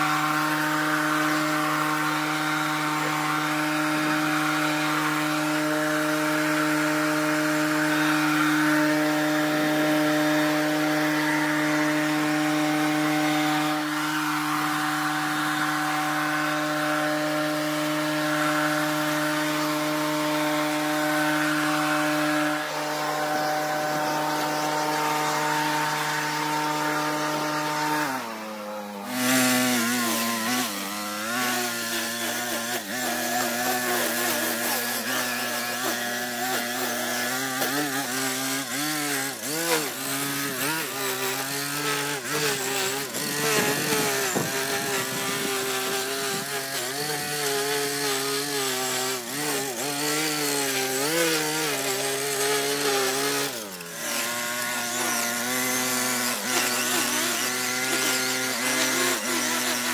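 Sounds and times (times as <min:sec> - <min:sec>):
brush cutter engine revving: 0:00.0 - 0:59.9
leaf blower engine running: 0:00.0 - 0:59.9.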